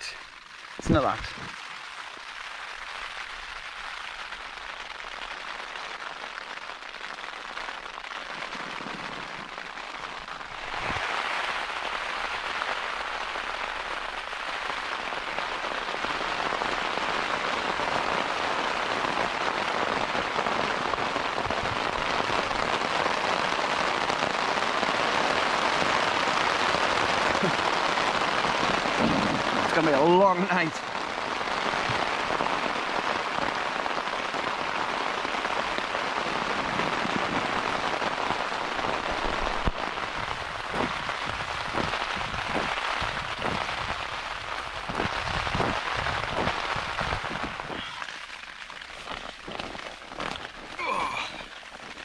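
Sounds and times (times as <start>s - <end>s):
heavy rain on tent flysheet: 0.0s - 52.0s.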